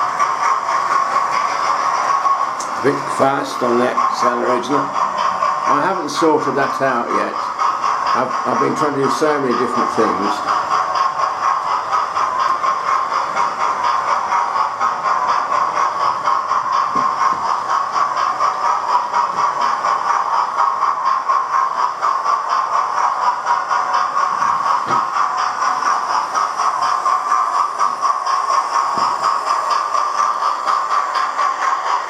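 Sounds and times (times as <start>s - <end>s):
model train running on track: 0.0s - 32.0s.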